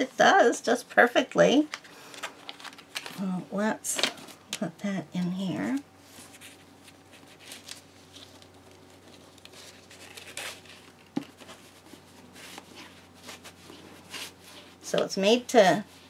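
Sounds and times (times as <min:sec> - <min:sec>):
cloth and paper rustling: 0:01.4 - 0:04.5, 0:05.2 - 0:16.0.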